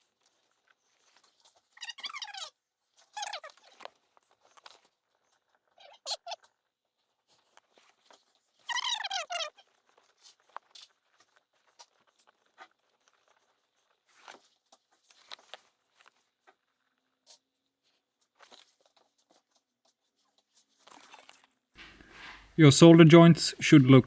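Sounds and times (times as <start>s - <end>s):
faint rustling of wires: 0.0s - 2.0s, 2.6s - 24.0s.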